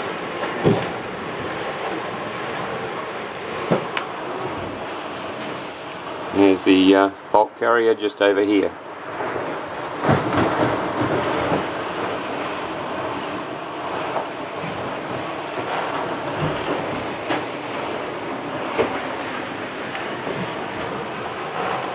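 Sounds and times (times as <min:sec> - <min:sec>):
waves rushing along hulls: 0:00.0 - 0:21.9.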